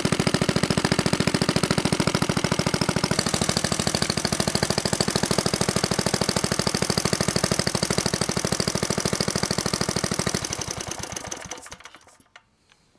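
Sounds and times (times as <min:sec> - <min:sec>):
single-cylinder engine running: 0:00.0 - 0:12.4.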